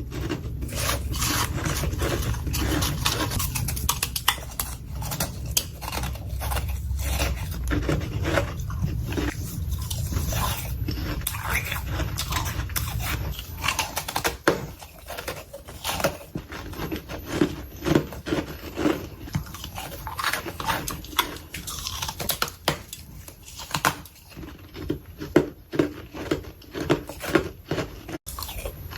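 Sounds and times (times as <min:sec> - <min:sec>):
frost being chewed: 0:00.0 - 0:28.9.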